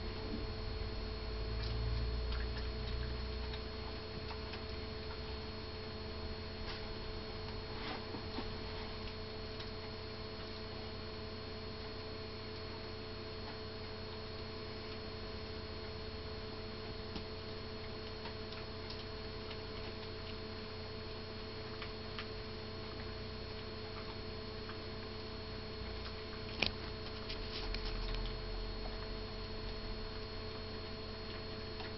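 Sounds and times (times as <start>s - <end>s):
electrical hum: 0.0s - 31.9s.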